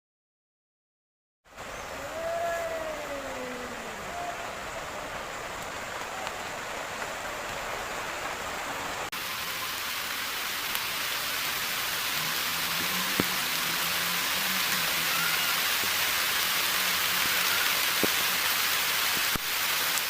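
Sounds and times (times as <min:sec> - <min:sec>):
rushing hiss of water: 0:01.5 - 0:20.0.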